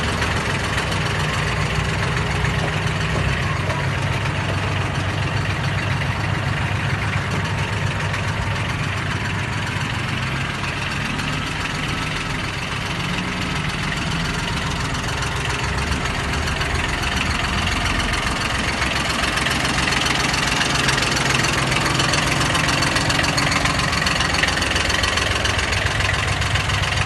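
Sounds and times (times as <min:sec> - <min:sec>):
tractor diesel engine idling: 0:00.0 - 0:27.0.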